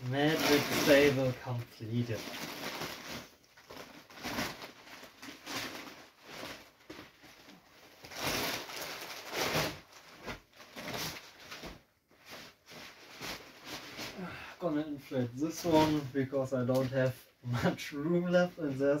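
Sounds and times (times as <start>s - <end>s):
vinyl crinkling and rustling: 0.0s - 19.0s.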